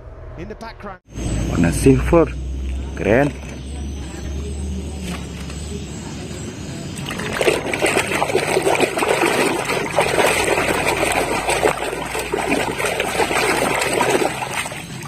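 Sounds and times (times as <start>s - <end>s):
water splashing and trickling: 2.4s - 15.0s.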